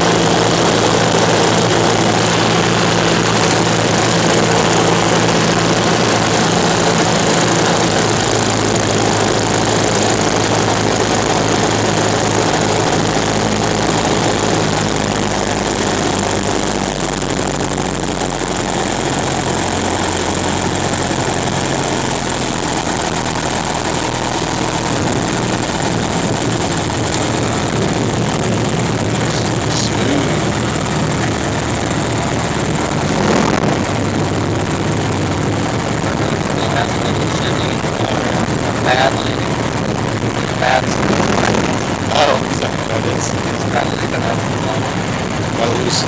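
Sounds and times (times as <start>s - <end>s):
wind noise: 0.0s - 45.6s
plane engine and propeller: 0.0s - 46.0s.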